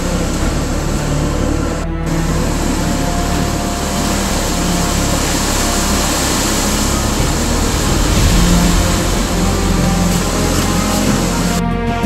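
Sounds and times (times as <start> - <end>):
hurricane wind: 0.0 - 11.8
driving rain: 0.0 - 12.0.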